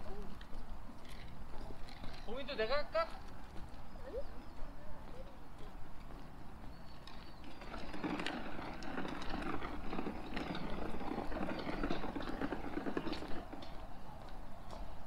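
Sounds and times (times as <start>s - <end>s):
footsteps on brick path: 0.0s - 15.0s.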